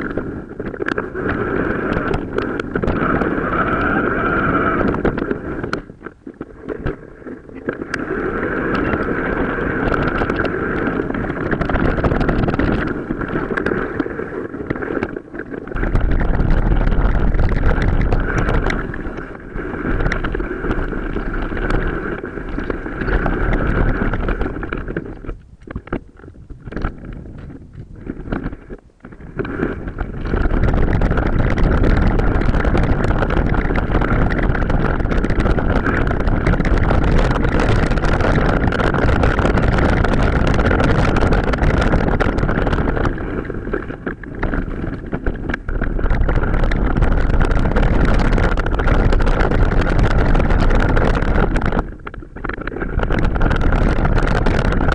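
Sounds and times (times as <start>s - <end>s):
mountain bike rumble and clatter: 0.0s - 54.9s
wind buffeting microphone: 0.0s - 54.9s.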